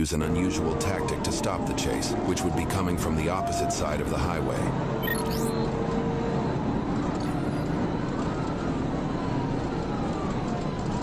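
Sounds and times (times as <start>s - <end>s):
road and wind noise: 0.0s - 11.0s
police siren rising and falling: 0.4s - 11.0s.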